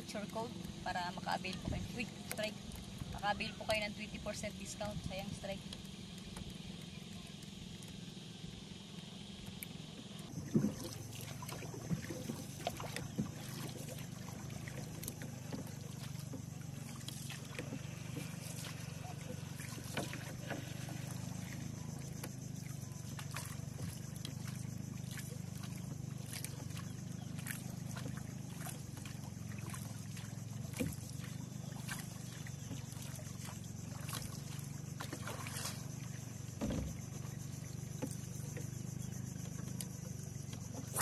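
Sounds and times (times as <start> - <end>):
paddle dipping in water: 0.0 - 41.0
steady low hum: 0.0 - 41.0
water trickling around a hull: 0.0 - 41.0.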